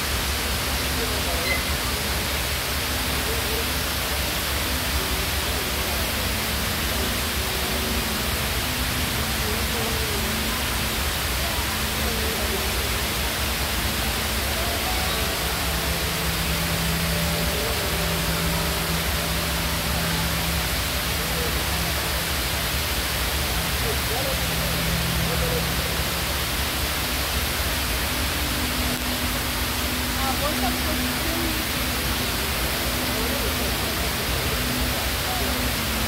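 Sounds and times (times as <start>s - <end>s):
faint crowd voices: 0.0s - 36.0s
indoor waterfall rushing: 0.0s - 36.0s.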